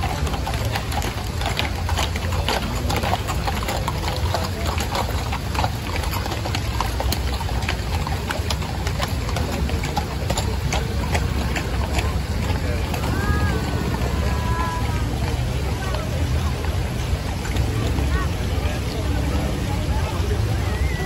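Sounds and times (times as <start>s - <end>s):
horse hooves on pavement: 0.0s - 21.0s
low background rumble: 0.0s - 21.0s.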